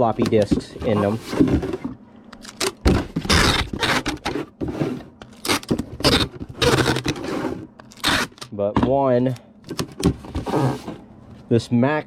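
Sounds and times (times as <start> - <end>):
boxes scraping and rustling: 0.0 - 11.5.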